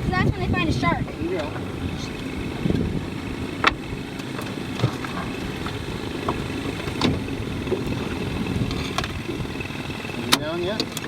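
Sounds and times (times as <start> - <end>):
small boat motor idling: 0.0 - 11.0.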